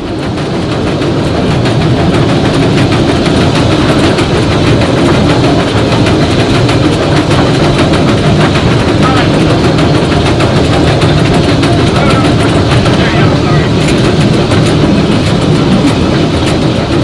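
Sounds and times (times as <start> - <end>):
running-gear rumble: 0.0 - 17.0
steam locomotive exhaust beats: 0.0 - 17.0.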